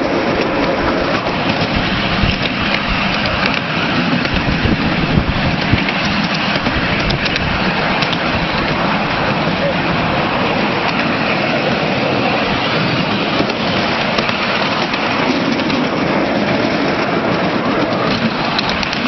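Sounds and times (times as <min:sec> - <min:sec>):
sharp clicks and clatter: 0:00.0 - 0:19.0
train wheels rumbling on track: 0:00.0 - 0:19.0.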